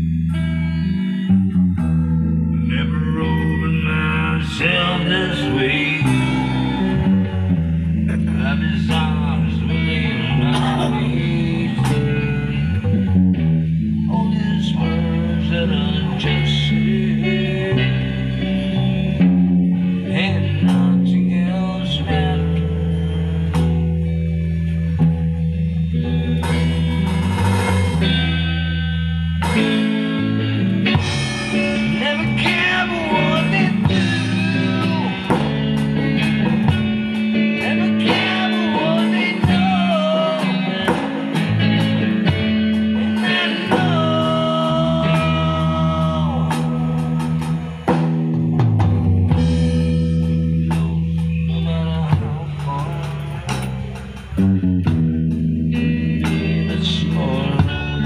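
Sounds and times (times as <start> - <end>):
bass notes: 0.0 - 58.0
electric guitar lead: 0.0 - 58.0.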